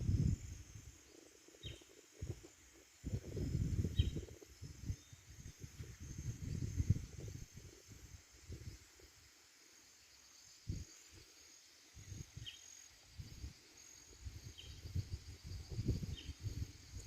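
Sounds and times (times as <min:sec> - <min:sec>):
insect buzzing: 0:00.0 - 0:17.0.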